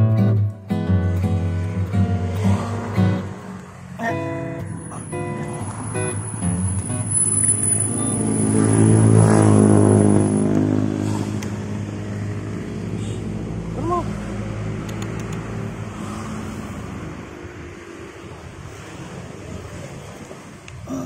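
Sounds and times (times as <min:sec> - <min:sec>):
vehicle engine passing: 0:00.7 - 0:20.5.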